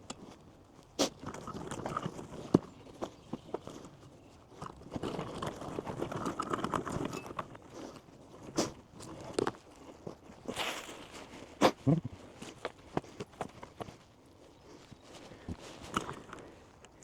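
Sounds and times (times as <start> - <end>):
digging in soil and leaf litter: 0.2 - 6.5, 7.5 - 17.0.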